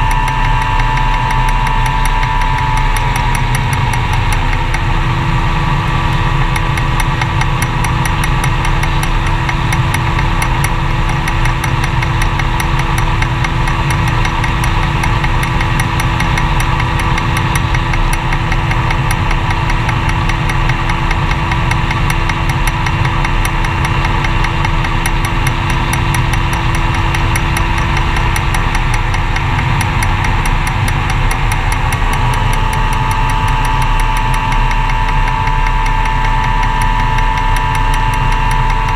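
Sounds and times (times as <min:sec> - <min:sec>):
fast even ticking: 0:00.0 - 0:38.9
gyroplane engine running: 0:00.0 - 0:38.9.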